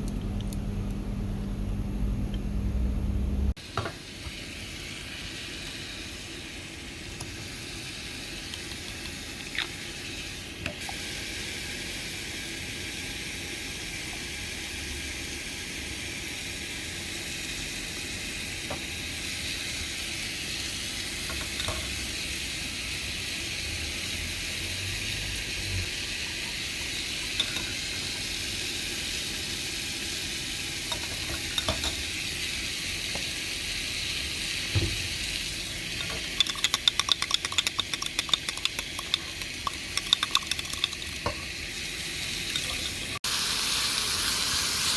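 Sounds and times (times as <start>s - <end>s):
food sizzling in a pan: 3.6s - 44.9s.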